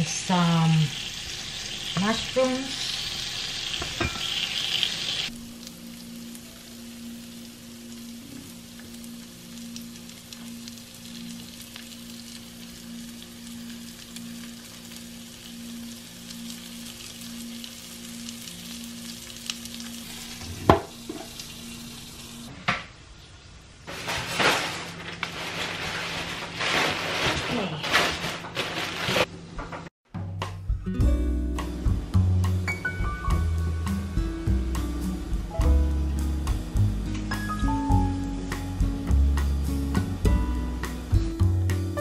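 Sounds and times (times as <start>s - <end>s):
vegetables sizzling on grill: 0.0s - 29.3s, 33.3s - 42.0s.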